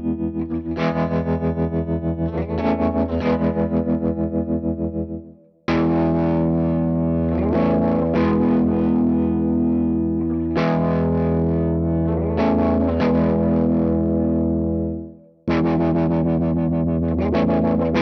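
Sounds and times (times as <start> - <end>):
electric guitar chords: 0.0 - 18.0.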